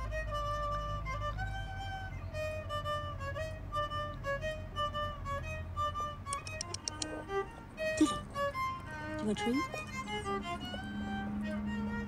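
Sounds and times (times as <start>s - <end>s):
fiddle melody: 0.0s - 12.0s
low musical accompaniment: 0.0s - 12.0s.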